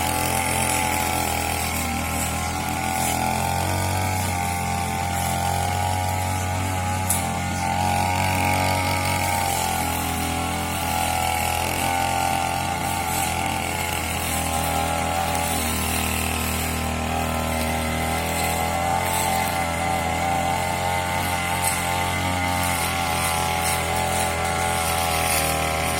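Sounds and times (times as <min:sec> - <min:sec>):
brush cutter engine running: 0:00.0 - 0:25.9.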